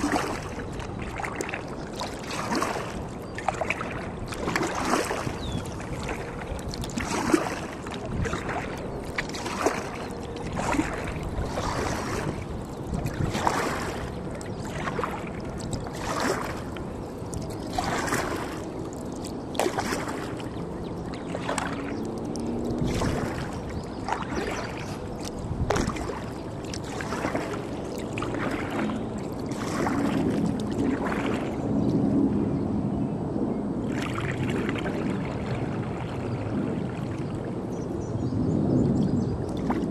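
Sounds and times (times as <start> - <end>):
paddle strokes splashing in water: 0.0 - 32.0, 33.8 - 37.8, 39.4 - 39.9.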